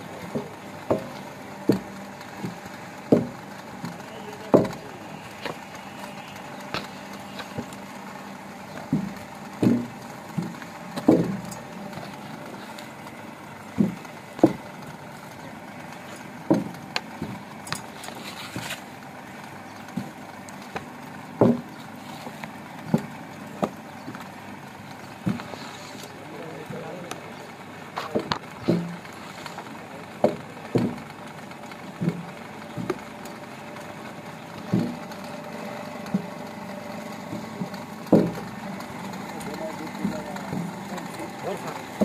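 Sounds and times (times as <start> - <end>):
machine motor humming: 0.0 - 42.0
dull thumps and knocks: 0.1 - 4.8, 5.4 - 13.0, 13.7 - 15.0, 16.0 - 18.9, 19.8 - 24.3, 25.0 - 26.1, 28.0 - 31.1, 31.9 - 33.8, 34.6 - 42.0.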